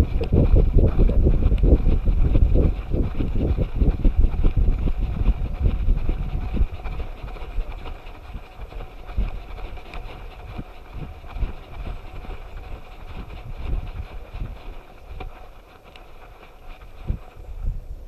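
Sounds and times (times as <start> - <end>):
wind buffeting: 0.0 - 18.0.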